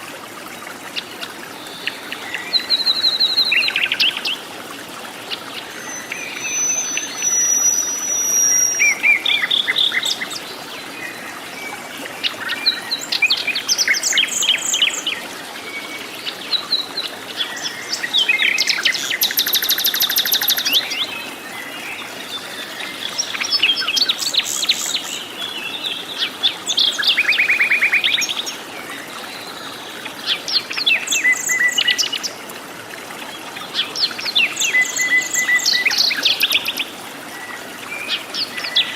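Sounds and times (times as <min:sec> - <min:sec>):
forest birds calling and singing: 0:00.6 - 0:04.5, 0:05.2 - 0:32.5, 0:33.2 - 0:38.9.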